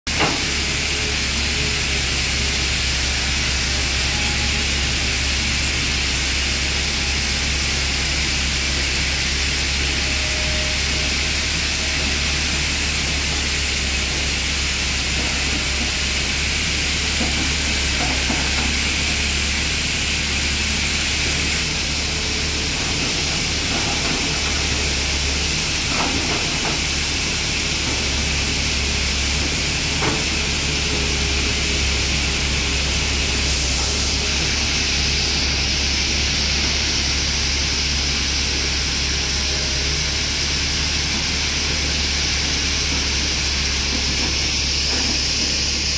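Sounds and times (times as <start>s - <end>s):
excavator diesel engine: 0.1s - 45.9s
loud even hiss: 0.2s - 45.9s.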